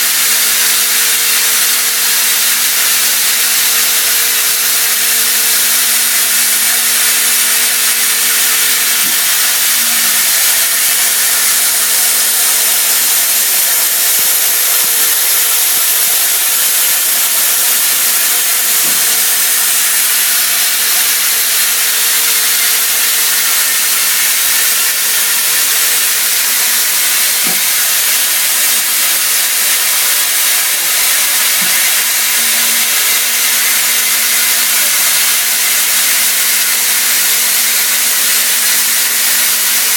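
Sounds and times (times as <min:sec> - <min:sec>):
coolant spraying hiss: 0:00.0 - 0:39.9.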